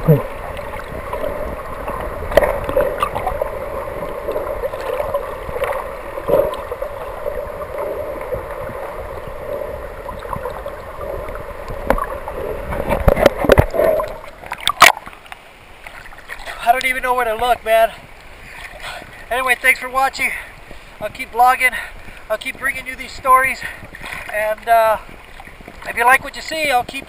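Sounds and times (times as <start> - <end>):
muffled underwater water rushing: 0.0 - 27.0.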